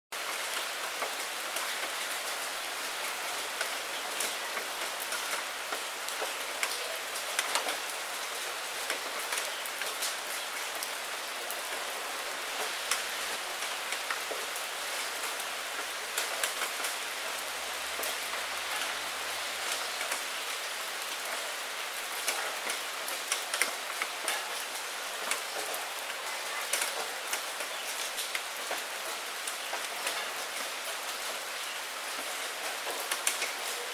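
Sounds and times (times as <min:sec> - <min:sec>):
rain hissing: 0:00.2 - 0:33.9
raindrops splashing: 0:00.2 - 0:33.9.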